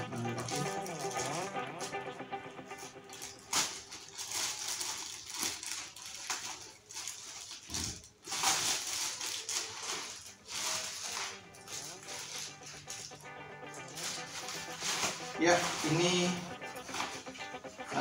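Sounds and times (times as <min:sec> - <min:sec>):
plastic bag crinkling: 0:02.8 - 0:17.6.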